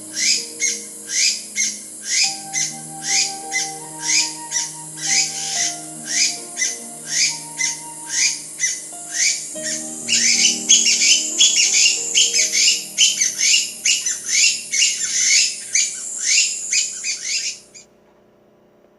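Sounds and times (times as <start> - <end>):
soft piano music: 0.0 - 16.9
birds chirping: 0.0 - 17.8.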